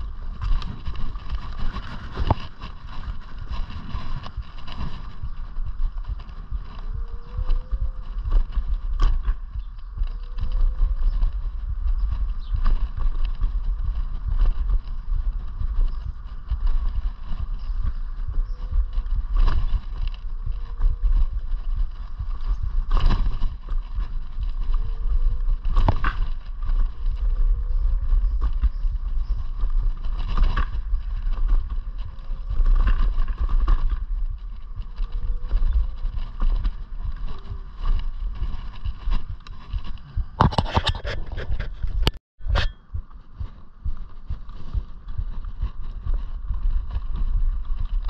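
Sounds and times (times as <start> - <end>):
electric scooter whine: 0.0 - 40.2
wind rumble on microphone: 0.0 - 48.0.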